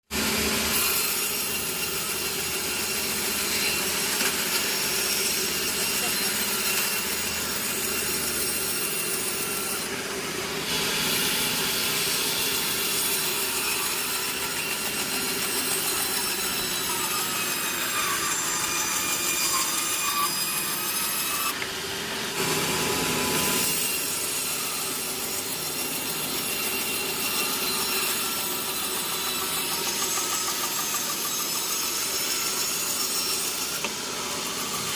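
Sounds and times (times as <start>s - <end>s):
saw cutting through log: 0.0s - 34.9s.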